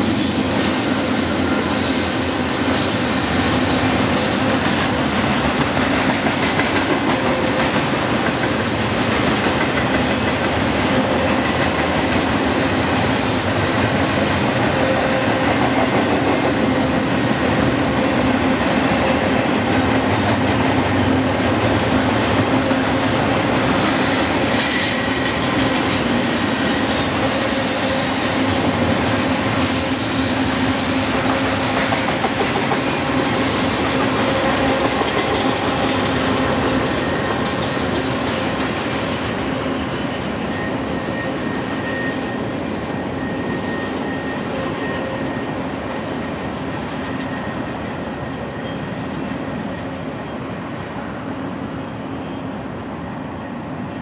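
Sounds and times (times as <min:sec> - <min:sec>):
high wheel squeal: 0:00.0 - 0:06.4, 0:07.0 - 0:18.8, 0:22.0 - 0:50.2
freight train rolling on rails: 0:00.0 - 0:54.0.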